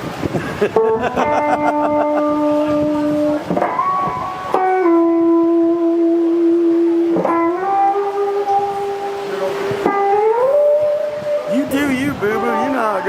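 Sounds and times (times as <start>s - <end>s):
long held horn-like notes: 2.3s - 13.0s.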